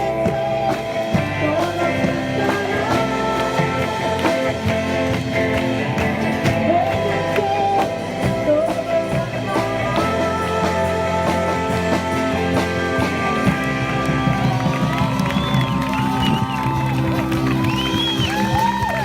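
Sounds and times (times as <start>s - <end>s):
rock music with singing: 0.0s - 19.0s.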